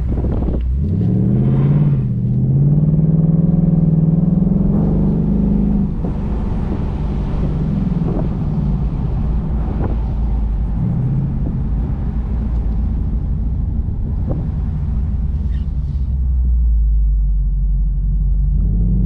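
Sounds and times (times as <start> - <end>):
car engine and exhaust: 0.0 - 19.0.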